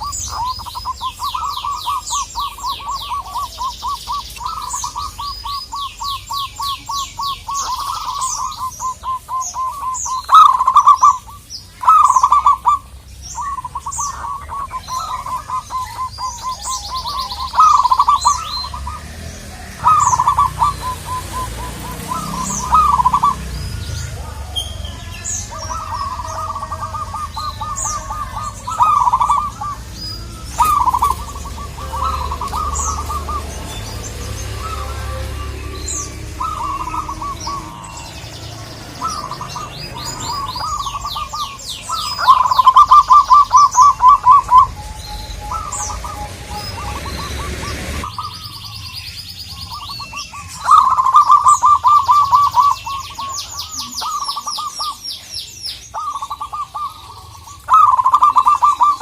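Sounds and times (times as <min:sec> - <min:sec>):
dove cooing: 0:00.0 - 0:48.6, 0:49.5 - 0:59.0
small birds chirping: 0:00.0 - 0:59.0.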